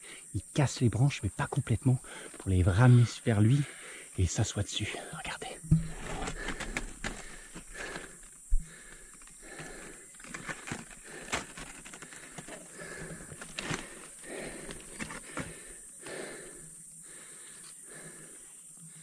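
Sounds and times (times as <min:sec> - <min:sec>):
leaves and branches rustling: 0:01.8 - 0:18.2.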